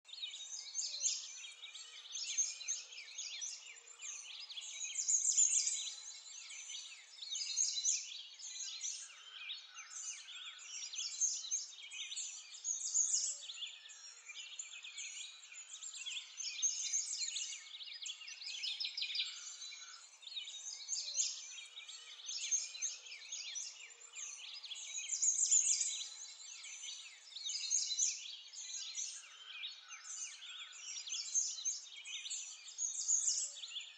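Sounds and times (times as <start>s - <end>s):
songbirds chirping and singing: 0.0s - 33.9s.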